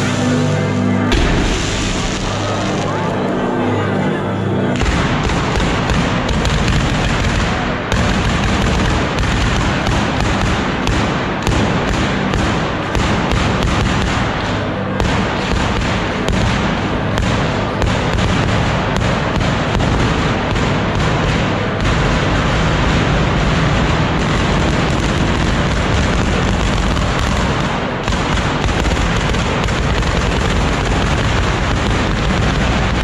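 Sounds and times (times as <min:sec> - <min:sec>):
firecracker barrage: 0:00.0 - 0:03.6, 0:04.7 - 0:33.0.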